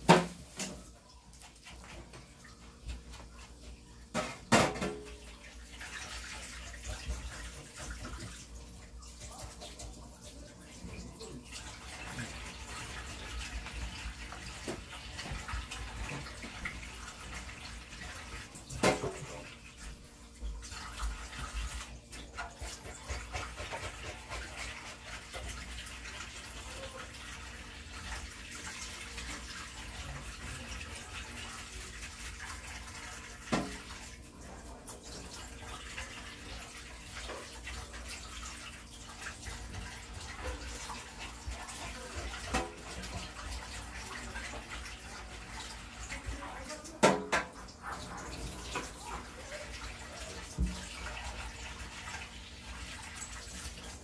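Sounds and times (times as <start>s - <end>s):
tap water splashing in metal sink: 0.0s - 3.4s, 4.0s - 54.0s.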